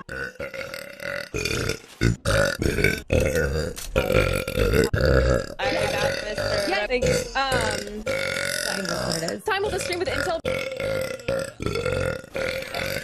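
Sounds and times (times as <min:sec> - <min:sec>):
girl burping: 0:00.0 - 0:13.0.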